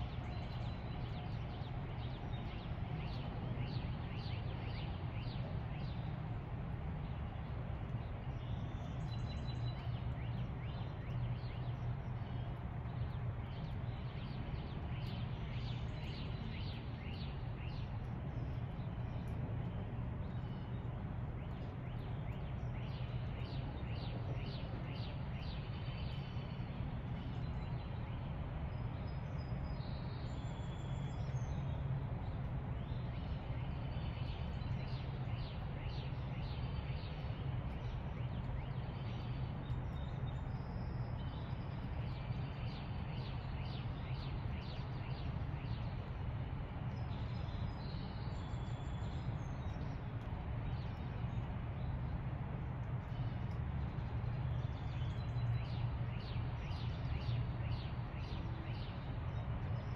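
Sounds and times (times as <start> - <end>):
low background rumble: 4.7 - 59.9
wild birds chirping: 8.1 - 52.2, 52.8 - 59.9.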